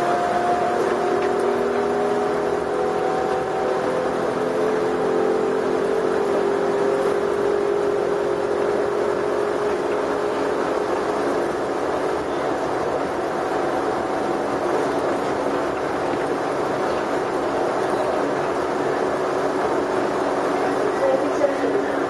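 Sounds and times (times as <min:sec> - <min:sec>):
shuttle train rushing through tunnel: 0:00.0 - 0:22.0.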